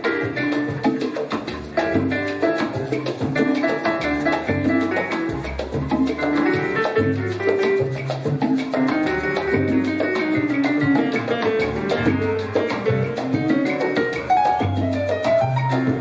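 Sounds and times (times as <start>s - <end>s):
salsa band playing: 0.0s - 16.0s.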